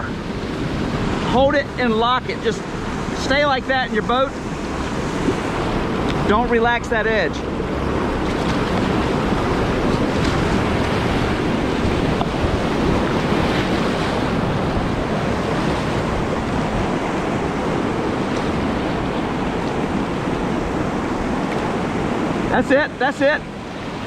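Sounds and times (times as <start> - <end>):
whitewater rushing: 0.0 - 24.0.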